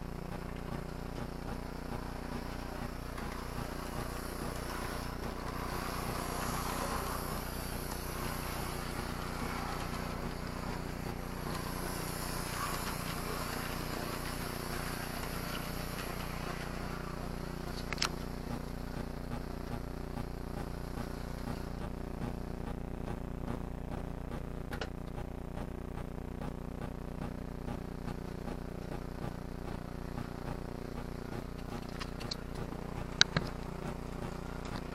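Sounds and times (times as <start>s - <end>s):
model train motor hum: 0.0s - 34.9s
wheels on track: 0.0s - 34.9s.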